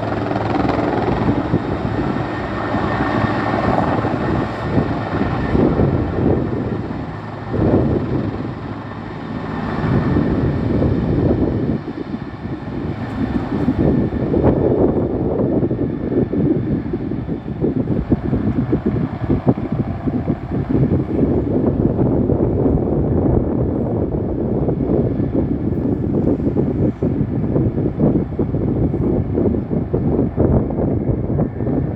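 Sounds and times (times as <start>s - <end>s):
helicopter rotor and engine: 0.0s - 31.9s
wind buffeting microphone: 0.0s - 31.9s.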